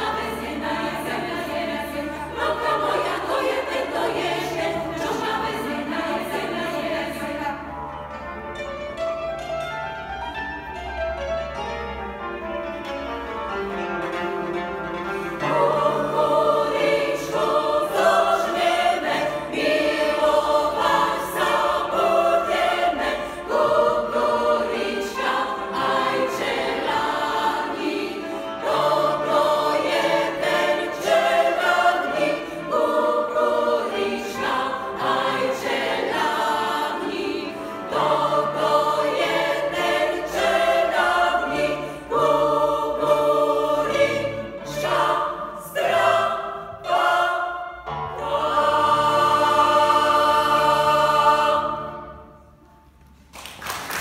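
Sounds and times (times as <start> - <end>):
women's choir singing: 0.0 - 8.0, 15.3 - 52.6.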